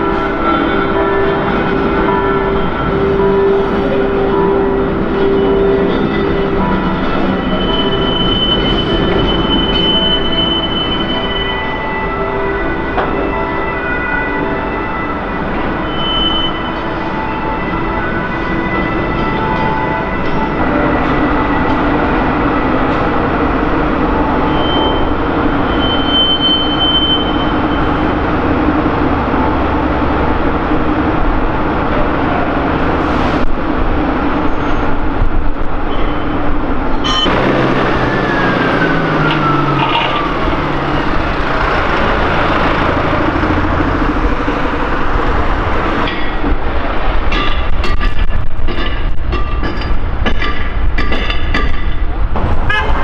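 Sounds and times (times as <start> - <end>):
engine and rail yard rumble: 0.0 - 53.0.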